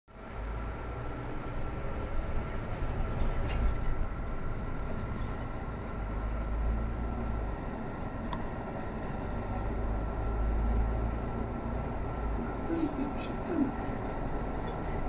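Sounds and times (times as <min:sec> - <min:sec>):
bus engine rumble: 0:00.1 - 0:15.0
road noise: 0:00.1 - 0:15.0.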